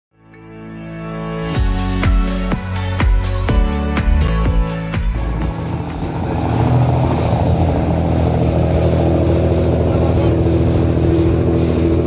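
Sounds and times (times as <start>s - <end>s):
boat engine running: 1.7s - 12.0s
rushing water: 2.2s - 12.0s.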